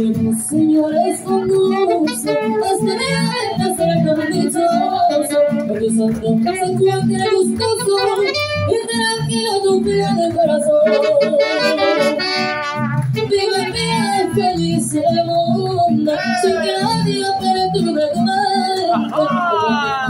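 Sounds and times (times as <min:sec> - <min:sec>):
guitarron bass: 0:00.0 - 0:20.0
mariachi band playing: 0:00.0 - 0:20.0
strummed guitars: 0:00.0 - 0:20.0.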